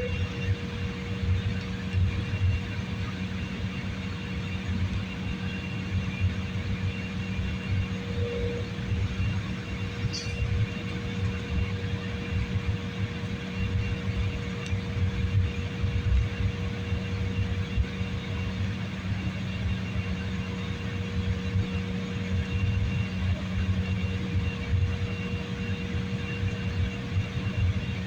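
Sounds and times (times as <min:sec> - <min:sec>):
constant cabin hum: 0:00.0 - 0:28.0
jet engine rumble: 0:00.0 - 0:28.0.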